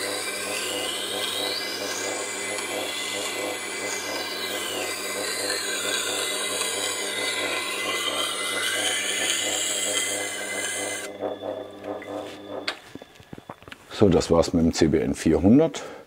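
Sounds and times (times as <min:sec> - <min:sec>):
knife grinding rasping hiss: 0:00.0 - 0:13.3
grinder motor humming: 0:00.0 - 0:14.1.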